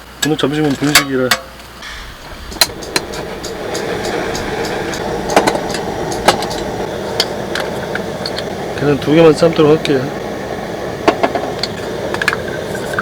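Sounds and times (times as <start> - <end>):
gas burner hissing: 0.0 - 13.0.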